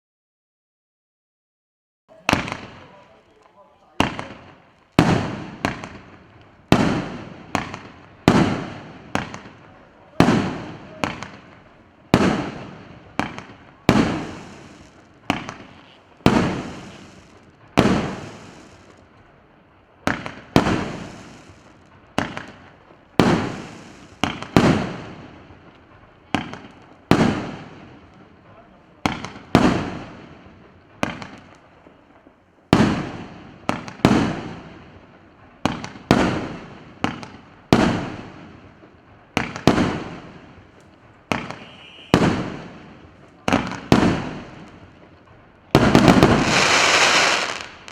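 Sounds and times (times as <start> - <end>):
fireworks cake firing sharp bangs: 2.1 - 19.3, 19.9 - 47.9.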